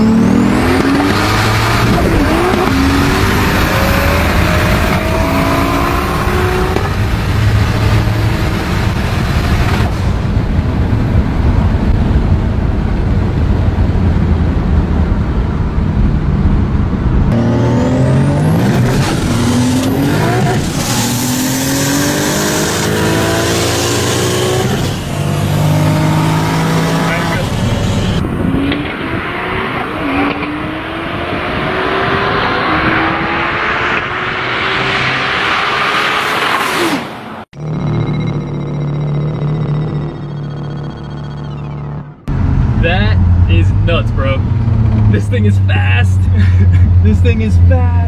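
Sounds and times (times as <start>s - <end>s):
car engine accelerating hard: 0.0s - 48.0s.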